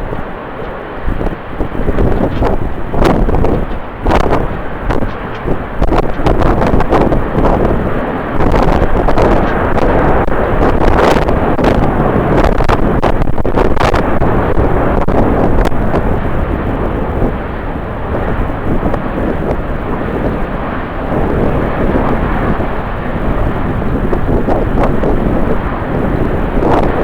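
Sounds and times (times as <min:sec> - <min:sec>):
jet engines running: 0:00.0 - 0:27.0
wind buffeting microphone: 0:00.0 - 0:27.0.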